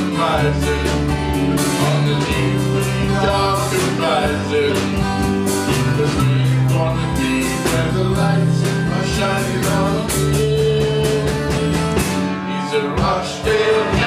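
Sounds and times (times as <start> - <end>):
strummed acoustic guitars: 0.0 - 14.0.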